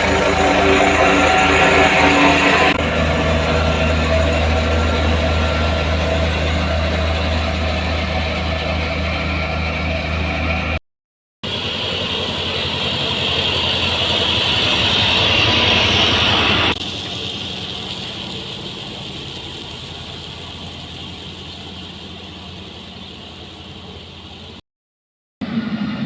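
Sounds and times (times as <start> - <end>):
machinery engine hum: 0.0 - 10.8, 11.4 - 24.6, 25.4 - 26.0.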